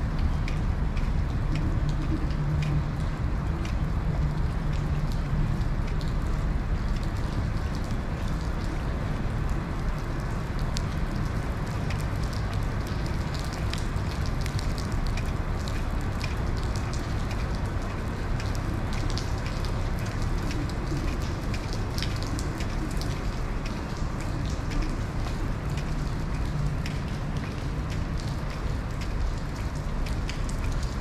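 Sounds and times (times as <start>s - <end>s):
low rain rumble: 0.0s - 31.0s
raindrops ticking: 0.0s - 31.0s.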